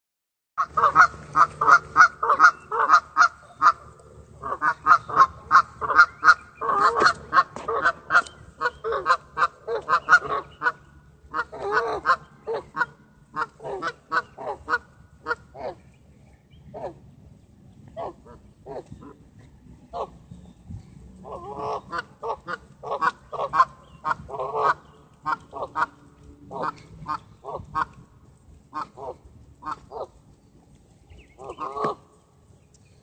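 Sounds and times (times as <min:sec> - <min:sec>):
geese honking: 0:00.6 - 0:16.0, 0:17.8 - 0:20.3, 0:21.1 - 0:30.3, 0:31.2 - 0:32.3.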